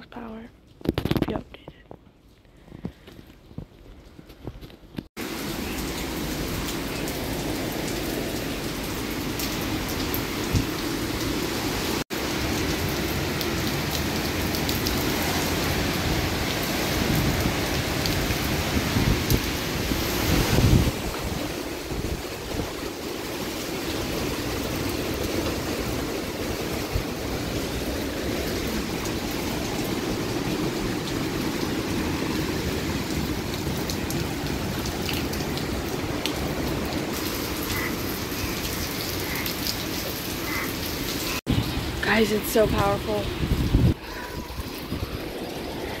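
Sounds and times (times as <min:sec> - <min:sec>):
wind: 0:00.0 - 0:46.0
heavy rain downpour: 0:05.2 - 0:46.0.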